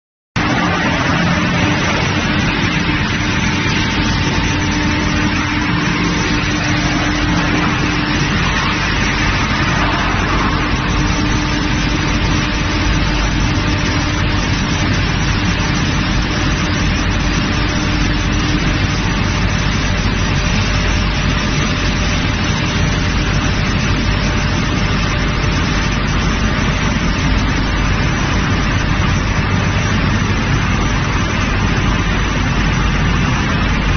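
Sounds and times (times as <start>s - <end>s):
crushing machinery running: 0.4s - 33.9s
steady hum: 0.4s - 33.9s.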